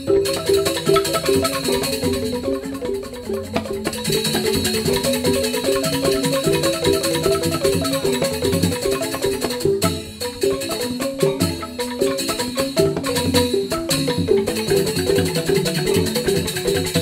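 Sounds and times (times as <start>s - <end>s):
bamboo xylophone gamelan music: 0.0s - 17.0s.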